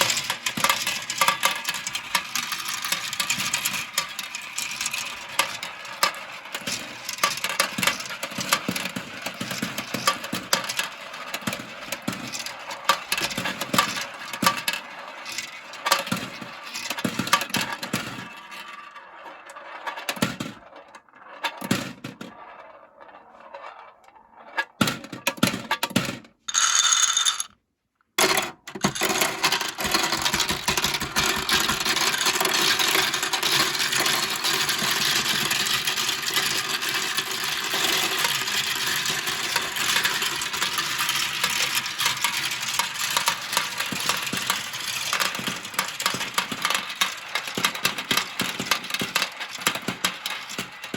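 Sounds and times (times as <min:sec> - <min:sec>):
marbles clattering down plastic run: 0:00.0 - 0:27.5, 0:28.2 - 0:50.9.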